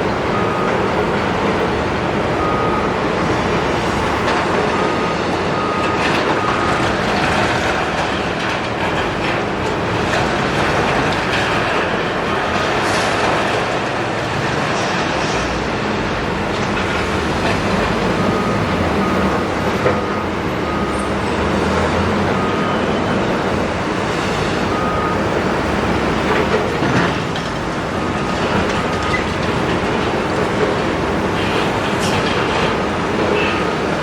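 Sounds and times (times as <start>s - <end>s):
excavator diesel engine: 0.0s - 34.0s.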